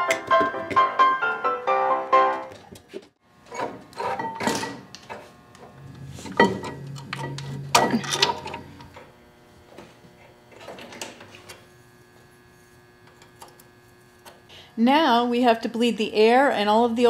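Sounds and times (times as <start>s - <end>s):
faint steady hum: 3.3s - 17.0s.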